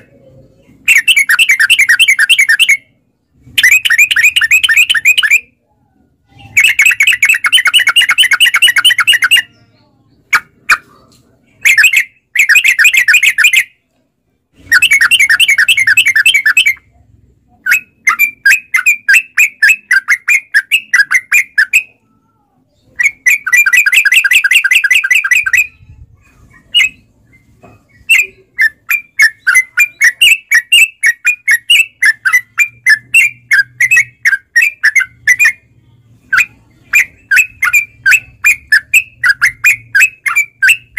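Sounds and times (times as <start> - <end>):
bulbul singing rattling phrases: 0.1 - 13.8, 14.6 - 40.9.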